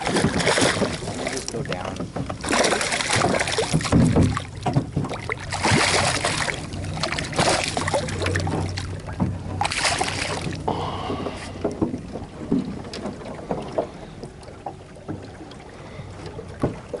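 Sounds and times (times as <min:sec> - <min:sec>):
fish thrashing and splashing water: 0:00.0 - 0:17.0.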